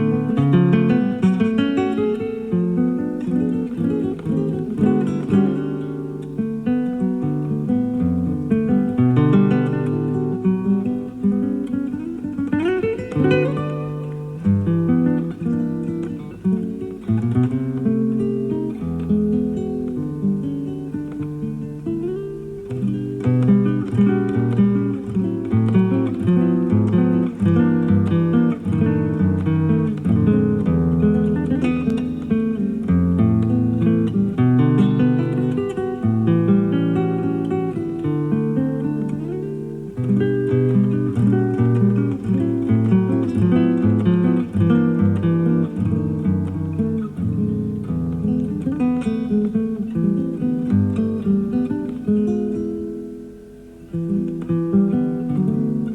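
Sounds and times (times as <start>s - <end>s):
classical guitar playing: 0.0s - 55.9s.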